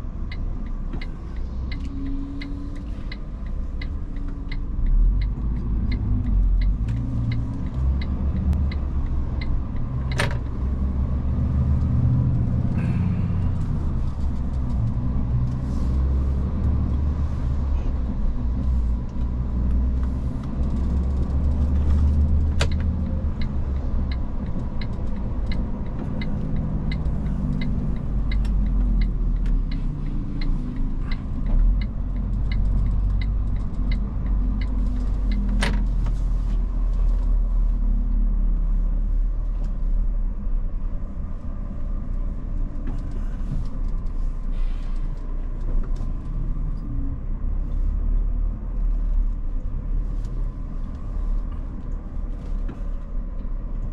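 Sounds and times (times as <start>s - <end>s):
diesel truck engine: 0.0s - 53.9s.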